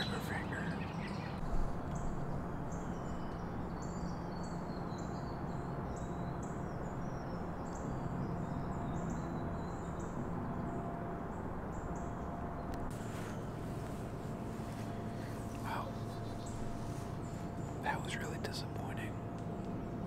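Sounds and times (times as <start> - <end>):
low background rush of woods: 0.0 - 20.0
small birds chirping: 0.0 - 20.0.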